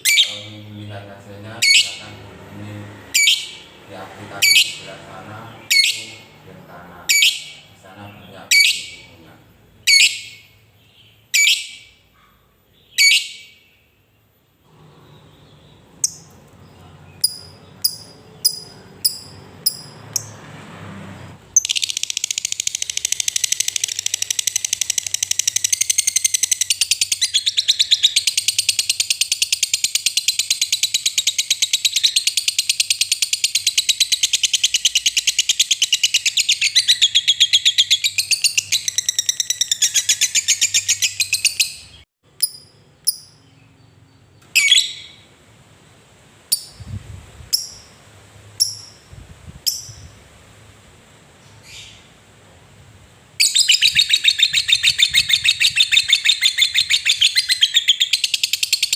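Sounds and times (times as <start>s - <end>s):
lovebird chirping and trilling: 0.0s - 0.7s, 1.4s - 2.2s, 3.0s - 6.4s, 7.0s - 9.2s, 9.8s - 12.1s, 12.7s - 14.0s, 15.1s - 20.4s, 21.5s - 45.3s, 46.5s - 48.0s, 48.6s - 50.2s, 51.4s - 52.1s, 53.4s - 58.9s.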